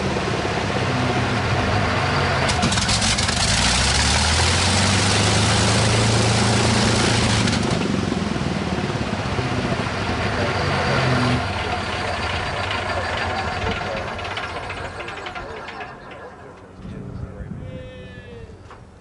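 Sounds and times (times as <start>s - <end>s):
propeller winding down: 0.0s - 17.2s
aircraft engine running and shutting down: 0.0s - 17.3s.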